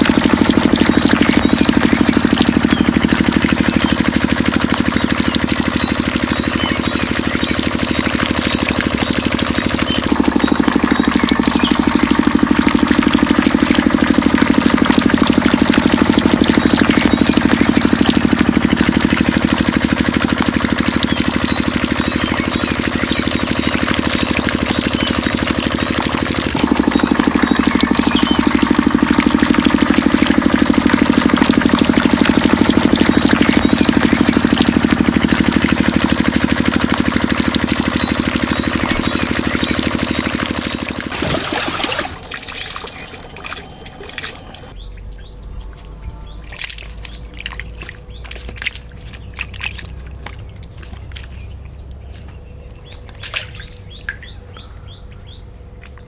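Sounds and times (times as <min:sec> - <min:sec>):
birds chirping: 0:00.0 - 0:56.0
water pump motor rattling: 0:00.0 - 0:56.0
water trickling and dripping: 0:00.0 - 0:56.0.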